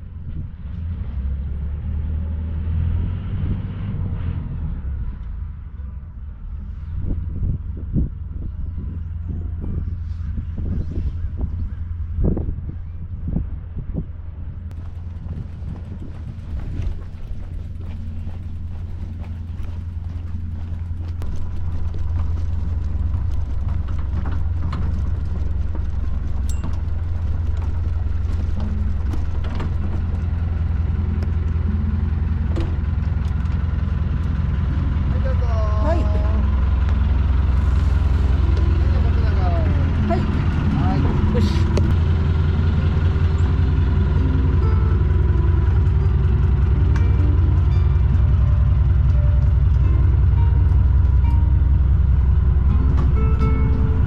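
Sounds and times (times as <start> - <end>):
wind buffeting microphone: 0.0 - 1.6, 2.6 - 54.0
boat engine rumbling: 0.0 - 54.0.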